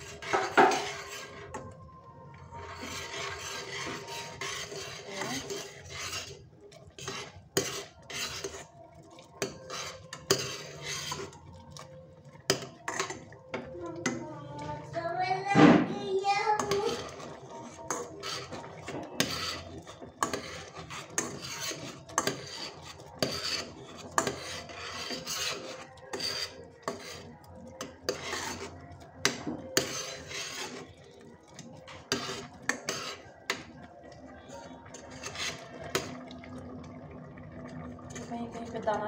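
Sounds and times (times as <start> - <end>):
metal ladle scraping a pot: 0.0 - 1.8, 2.4 - 39.0.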